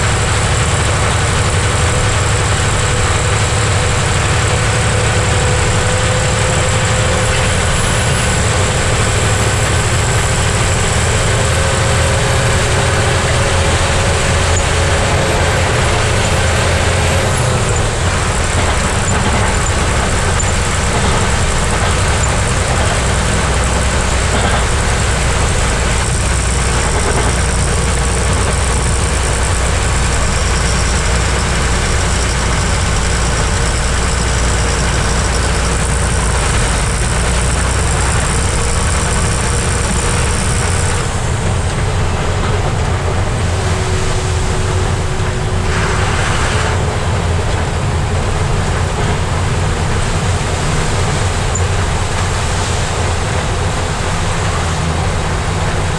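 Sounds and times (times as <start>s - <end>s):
road noise: 0.0s - 55.9s
truck engine running: 0.0s - 55.9s.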